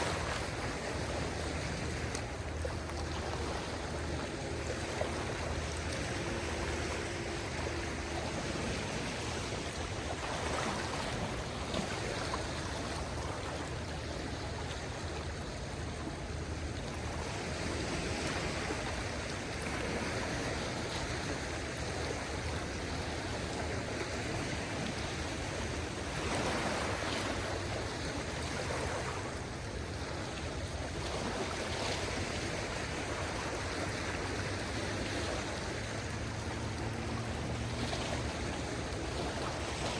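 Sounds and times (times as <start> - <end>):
gentle waves washing ashore: 0.0 - 39.9.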